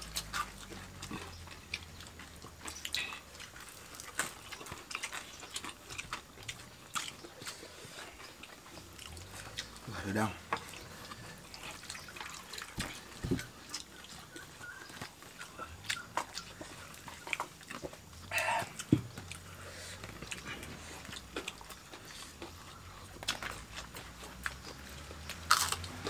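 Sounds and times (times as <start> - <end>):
people eating with wet chewing: 0.0 - 26.0.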